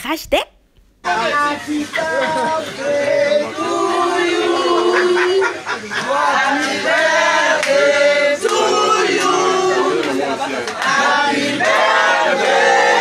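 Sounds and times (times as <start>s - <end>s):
voices singing together: 1.0s - 13.0s.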